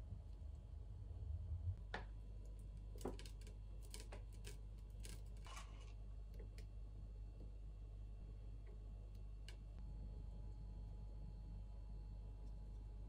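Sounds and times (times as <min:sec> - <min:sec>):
steady low hum: 0:00.0 - 0:03.8, 0:04.6 - 0:13.0.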